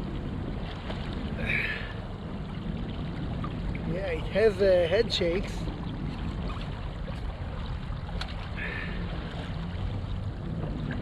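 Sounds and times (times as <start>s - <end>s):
water lapping against kayak hull: 0.0s - 11.0s.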